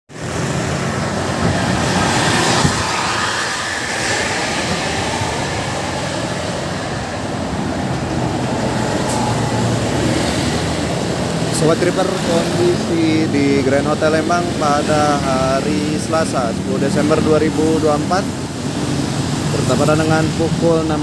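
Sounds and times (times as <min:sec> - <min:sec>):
heavy vehicles passing: 0:00.1 - 0:21.0.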